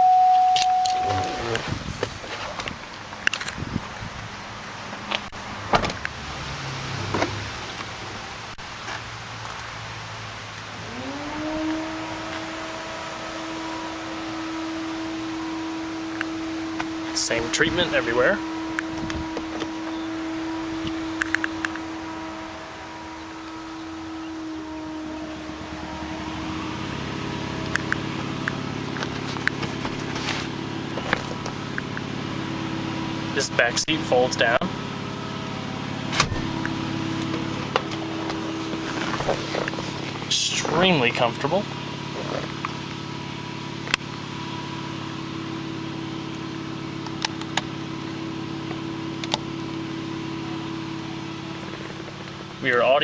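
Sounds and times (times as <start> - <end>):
steady mechanical hum: 8.7 - 53.0.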